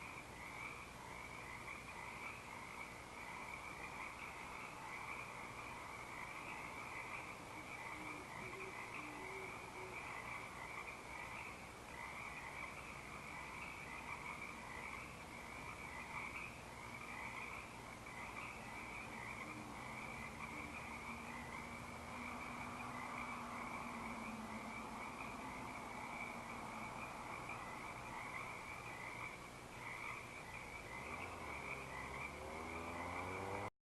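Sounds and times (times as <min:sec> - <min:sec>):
faint low owl hoots: 0:00.0 - 0:32.7
frogs trilling: 0:00.0 - 0:33.7.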